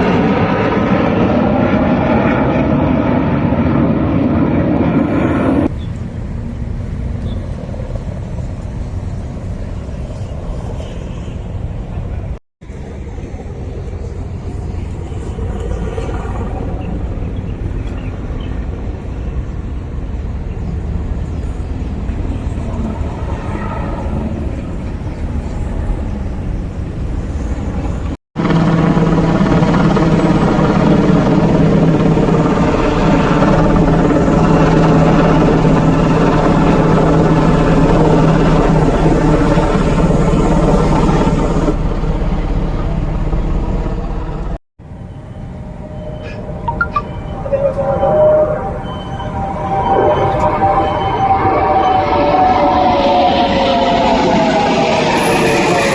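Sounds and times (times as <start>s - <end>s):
military aircraft flying overhead: 0.0s - 55.9s.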